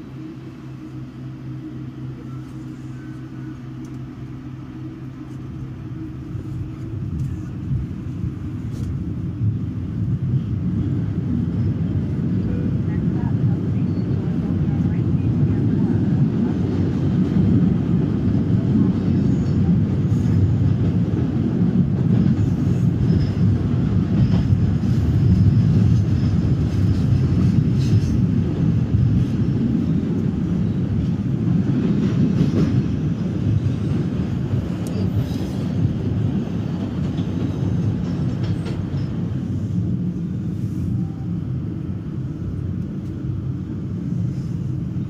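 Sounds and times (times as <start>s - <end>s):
subway train rumble: 0.0s - 45.0s.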